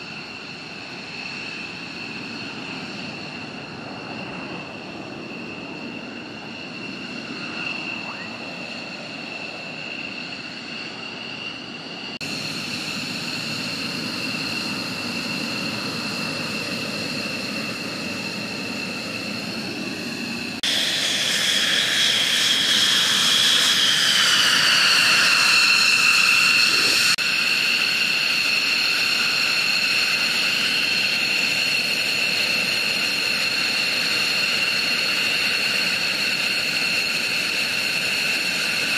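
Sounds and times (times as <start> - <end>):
jet engines whining and rumbling: 0.0 - 38.9.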